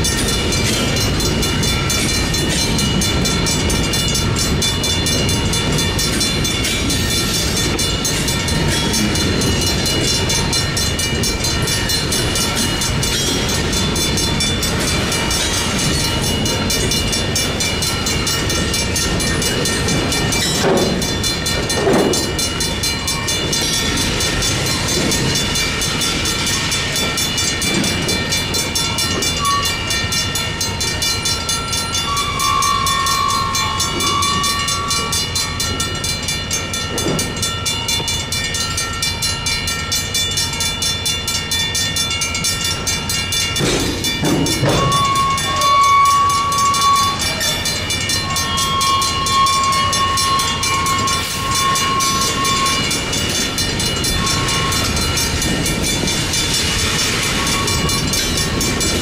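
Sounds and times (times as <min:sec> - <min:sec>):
crossing signal bell ringing: 0:00.0 - 0:59.0
diesel locomotive engine rumble: 0:00.0 - 0:59.0
train wheels on rails: 0:00.0 - 0:59.0.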